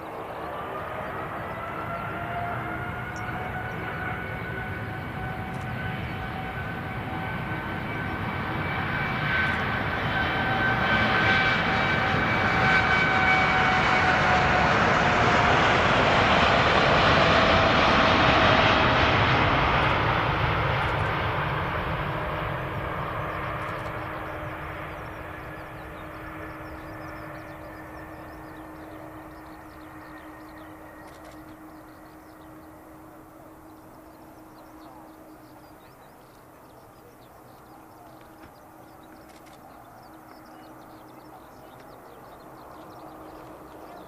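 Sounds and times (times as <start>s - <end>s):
jet engine whine: 0.0s - 44.0s.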